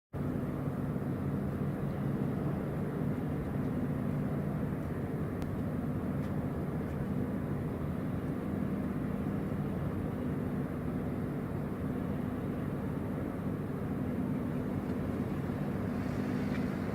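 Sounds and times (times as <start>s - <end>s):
ship's engine droning: 0.2s - 16.9s.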